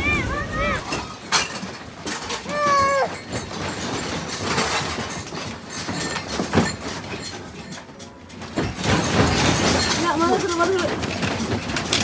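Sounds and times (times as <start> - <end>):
earthquake rumbling and rattling: 0.0 - 12.0.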